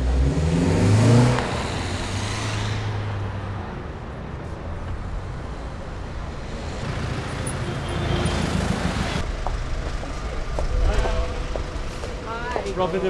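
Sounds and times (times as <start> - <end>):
road noise from passing traffic: 0.0 - 13.0
vehicle engine humming: 0.0 - 13.0.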